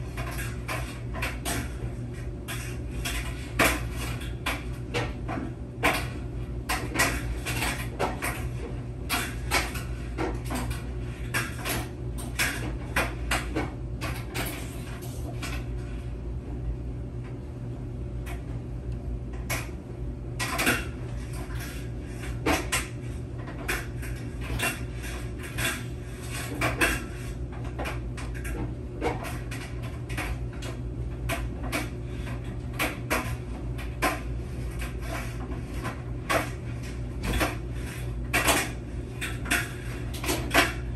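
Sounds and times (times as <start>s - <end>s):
laundry machine humming: 0.0s - 40.9s.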